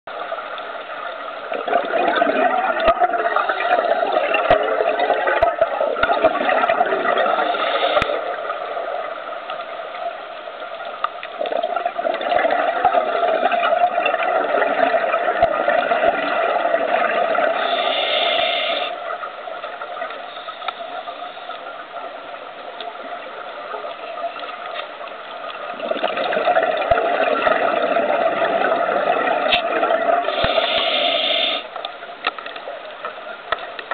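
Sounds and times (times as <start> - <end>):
underwater regulator exhaust bubbles: 1.4 - 9.7, 11.0 - 22.0, 22.7 - 32.4
faint clicks: 2.8 - 33.9.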